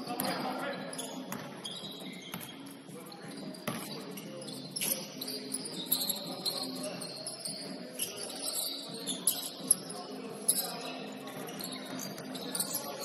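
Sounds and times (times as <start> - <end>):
faint voices: 0.0 - 13.0
sneaker squeaks on floor: 0.0 - 13.0.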